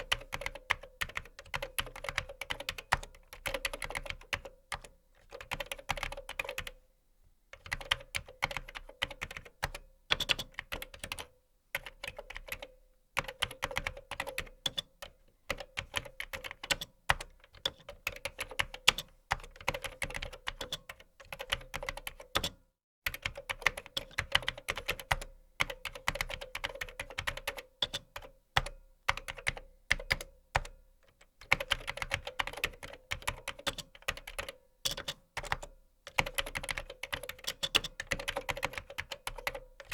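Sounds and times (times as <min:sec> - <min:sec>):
computer keyboard typing: 0:00.0 - 0:06.8, 0:07.6 - 0:39.9.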